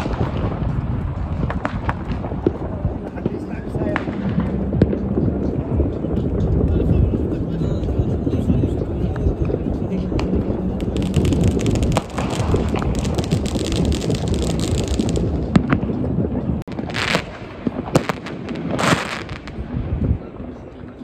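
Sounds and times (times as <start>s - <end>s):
fireworks banging: 0.0s - 6.7s, 9.1s - 20.0s
fireworks crackling: 0.0s - 6.7s, 9.5s - 20.0s
distant explosions rumbling: 0.0s - 7.4s, 9.1s - 20.5s.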